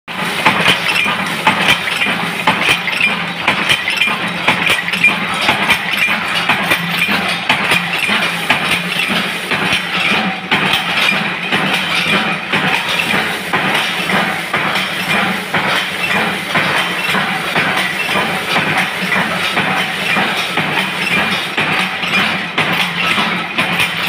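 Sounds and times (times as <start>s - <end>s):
metallic clanks: 0.1s - 24.0s.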